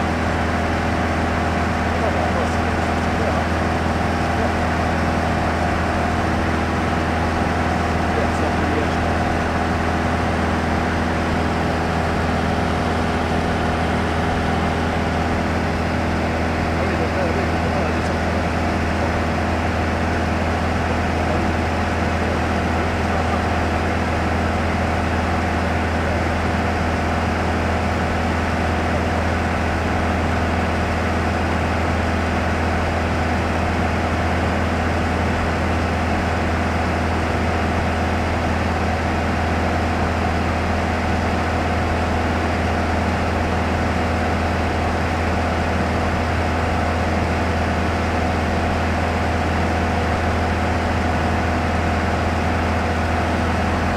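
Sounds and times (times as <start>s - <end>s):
aircraft engine drone in cabin: 0.0s - 53.9s.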